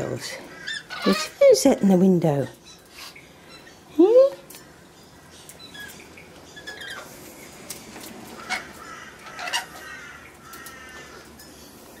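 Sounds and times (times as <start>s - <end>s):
lorikeets chattering and screeching: 0.0s - 12.0s.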